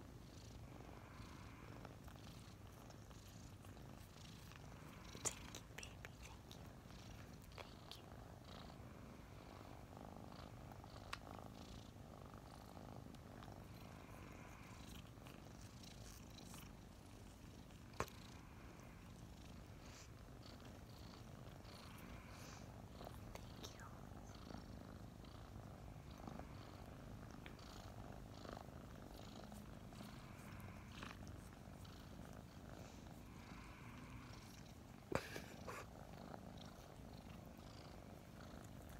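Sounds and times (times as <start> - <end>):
kittens purring: 0.0 - 38.9.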